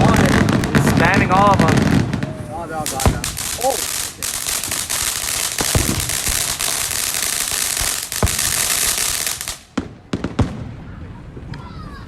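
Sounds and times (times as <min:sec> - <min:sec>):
fireworks bangs: 0:00.0 - 0:11.7
fireworks crackling: 0:00.0 - 0:11.8.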